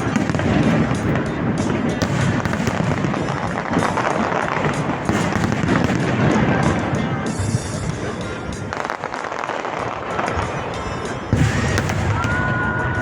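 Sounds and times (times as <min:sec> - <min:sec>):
fireworks crackling and popping: 0:00.0 - 0:13.0
music playing: 0:00.0 - 0:13.0.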